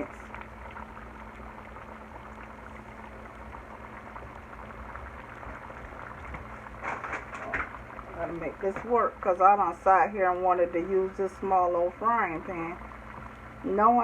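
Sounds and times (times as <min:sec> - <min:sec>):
faint low hum: 0:00.0 - 0:14.0
sauce simmering in a frying pan: 0:00.0 - 0:14.0.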